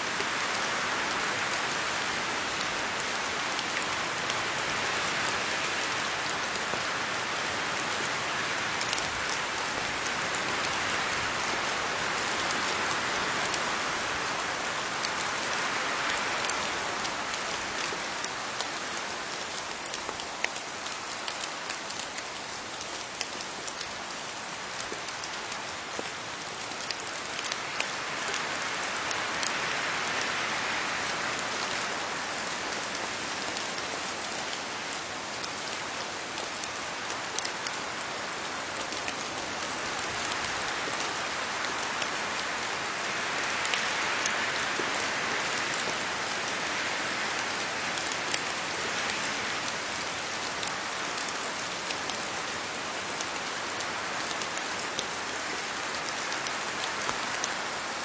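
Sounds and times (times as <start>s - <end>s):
rain pattering on leaves: 0.0s - 58.0s.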